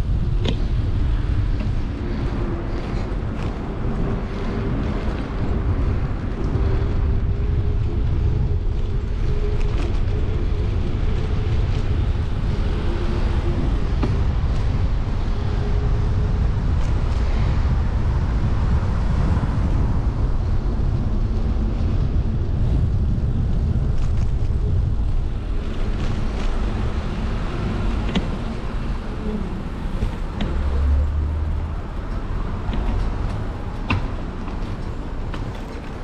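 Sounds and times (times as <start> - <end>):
passing motor vehicles: 0.0 - 36.0.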